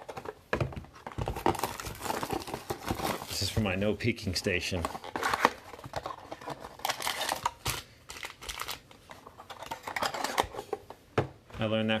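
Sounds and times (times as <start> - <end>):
packaging crinkling and rustling: 0.0 - 10.7.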